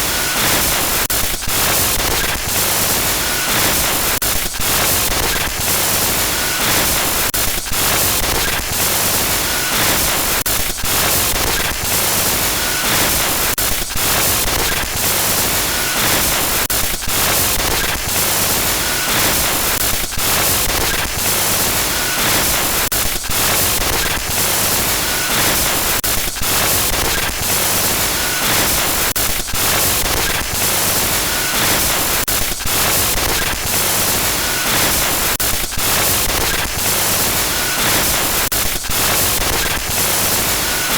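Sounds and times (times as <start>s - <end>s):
harsh electronic static noise: 0.0s - 40.9s.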